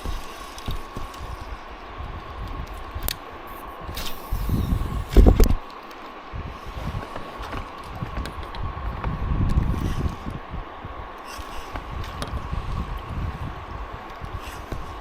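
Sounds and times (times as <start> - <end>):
faint high whine: 0.0 - 15.0
wind buffeting microphone: 0.0 - 15.0.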